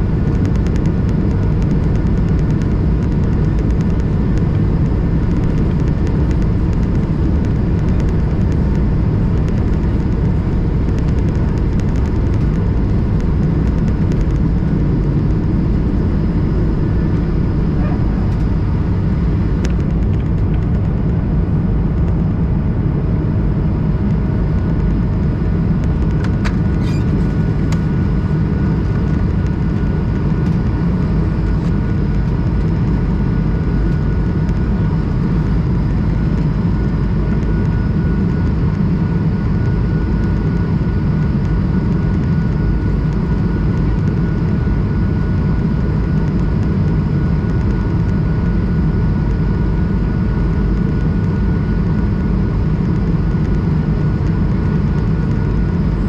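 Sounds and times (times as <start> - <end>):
faint engine whine: 0.0 - 56.0
jet engine cabin rumble: 0.0 - 56.0.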